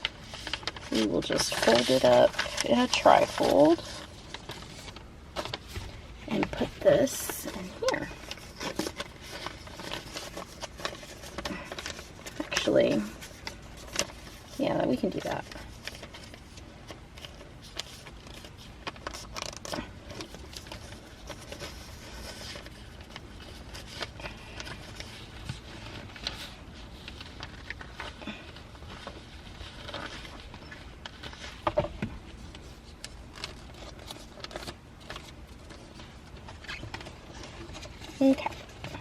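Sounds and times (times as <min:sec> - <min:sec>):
paper rustling and crinkling: 0:00.0 - 0:39.0
small clicks and scrapes: 0:00.0 - 0:39.0.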